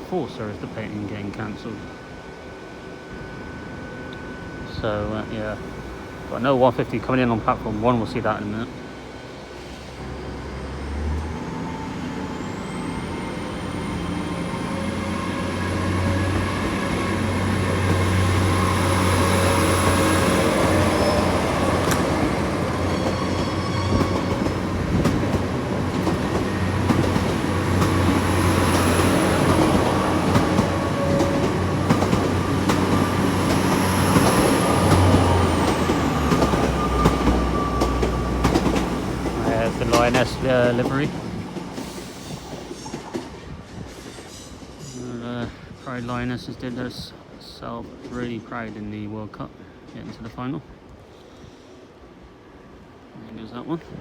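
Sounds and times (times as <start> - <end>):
passenger train moving: 0.0 - 54.0.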